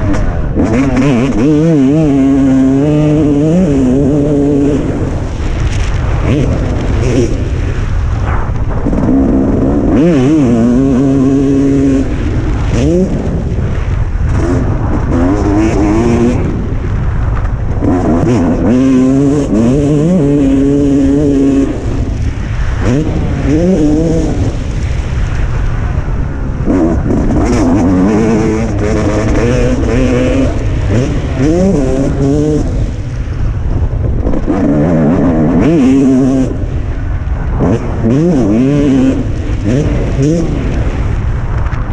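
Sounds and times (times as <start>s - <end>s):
motocross bike engine revving: 0.0s - 8.2s, 8.8s - 33.6s, 34.2s - 41.2s
low rumble: 0.0s - 41.9s.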